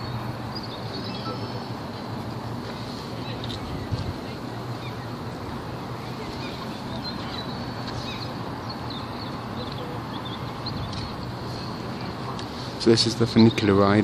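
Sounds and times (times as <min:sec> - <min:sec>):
small birds chirping: 0:00.0 - 0:02.2, 0:03.0 - 0:14.0.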